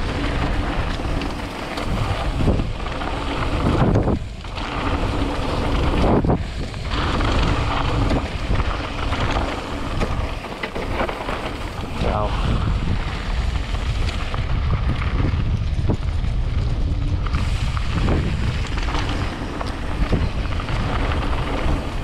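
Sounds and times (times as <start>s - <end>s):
tyres rolling over dirt trail: 0.0s - 22.0s
wind buffeting microphone: 0.0s - 22.0s.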